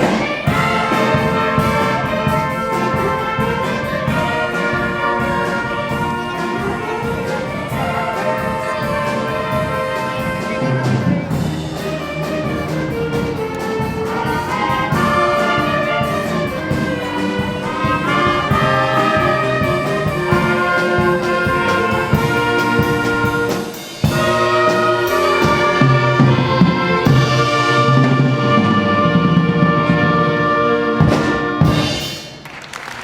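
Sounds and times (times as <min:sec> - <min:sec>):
brass ensemble playing chords: 0:00.0 - 0:32.2.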